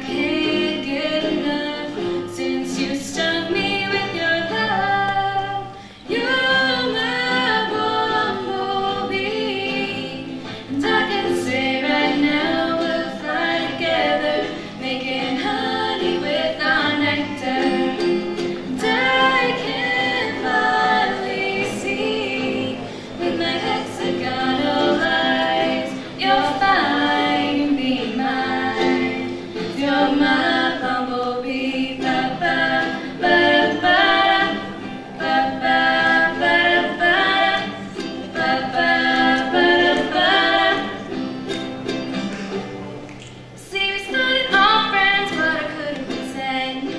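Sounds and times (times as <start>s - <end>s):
girls singing together: 0.0s - 42.6s, 43.5s - 46.9s
strummed acoustic guitar: 0.0s - 46.9s
ukulele: 0.0s - 46.9s.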